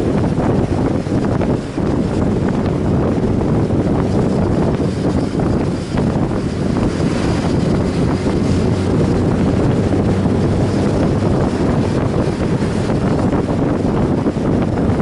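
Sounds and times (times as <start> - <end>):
motorcycle low rumble: 0.0 - 15.0
wind buffeting microphone: 0.0 - 15.0.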